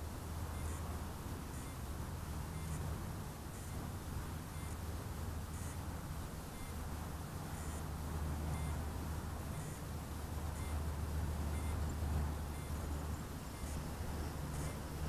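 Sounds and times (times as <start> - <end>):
distant paramotor engine drone: 0.0 - 15.0.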